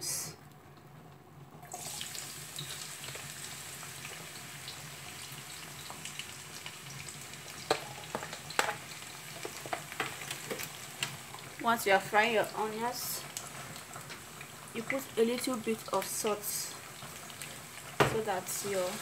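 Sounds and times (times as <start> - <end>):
onions sizzling in oil: 1.7 - 19.0.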